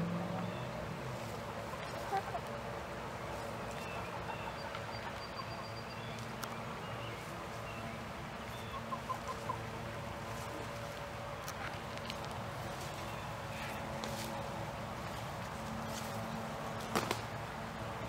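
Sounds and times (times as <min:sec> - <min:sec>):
outdoor background noise: 0:00.0 - 0:18.0
chickens clucking: 0:01.2 - 0:17.0.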